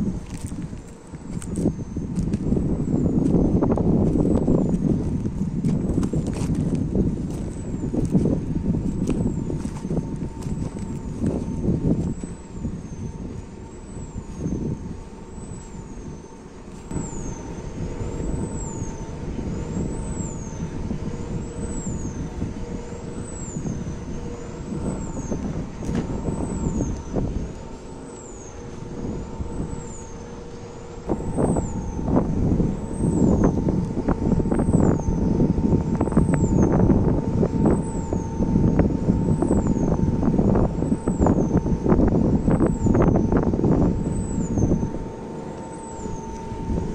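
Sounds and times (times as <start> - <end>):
wind rumbling on microphone: 0.0 - 46.9
wind turbines humming and whining: 0.0 - 46.9.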